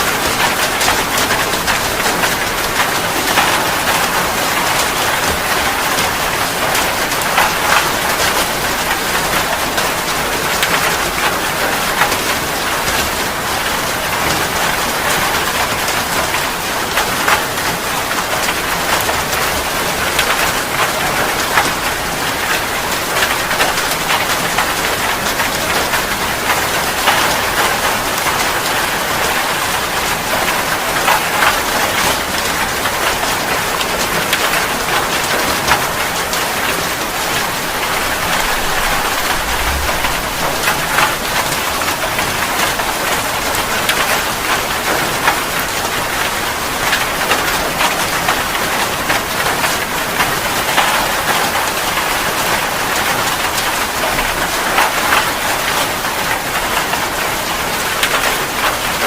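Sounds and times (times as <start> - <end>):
raindrops hitting a surface: 0.0 - 59.0
steady rain hiss: 0.0 - 59.0.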